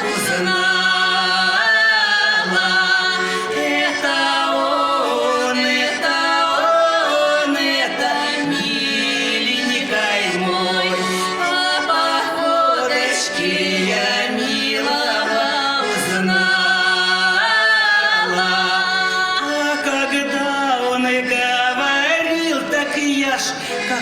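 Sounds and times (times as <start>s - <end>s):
voices singing a folk song: 0.0s - 24.0s.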